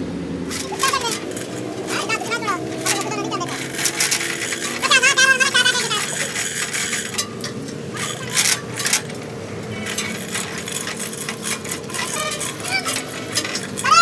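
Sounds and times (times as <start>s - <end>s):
sharp clinks and knocks: 0.5s - 14.0s.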